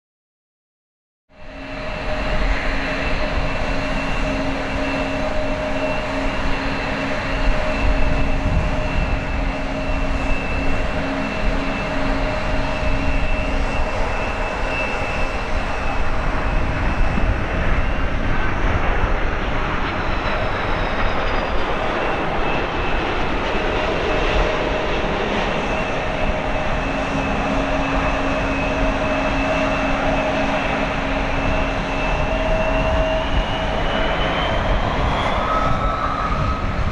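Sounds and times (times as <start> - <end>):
jet engines rushing and whining: 1.3 - 36.9.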